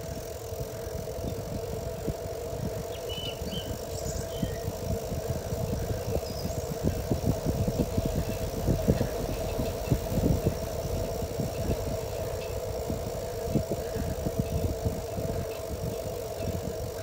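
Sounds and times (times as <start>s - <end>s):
bicycle riding over asphalt: 0.0s - 17.0s.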